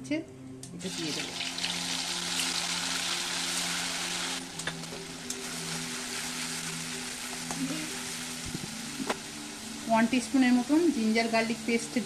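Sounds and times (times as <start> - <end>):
paste sizzling in hot oil: 0.8 - 12.0.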